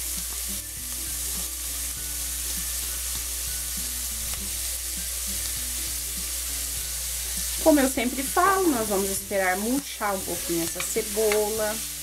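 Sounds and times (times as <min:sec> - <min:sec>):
onion sizzling in oil: 0:00.0 - 0:12.0
quiet background melody: 0:00.0 - 0:12.0.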